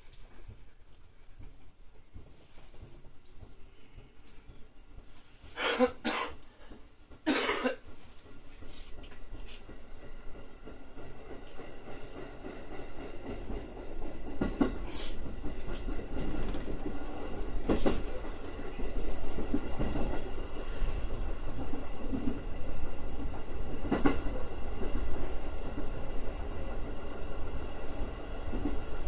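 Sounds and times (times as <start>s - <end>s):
train rumble from inside: 0.0s - 29.0s.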